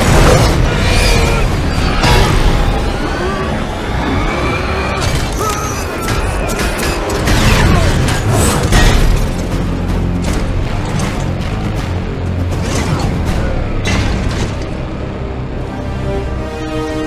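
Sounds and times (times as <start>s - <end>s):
film score: 0.0s - 17.0s.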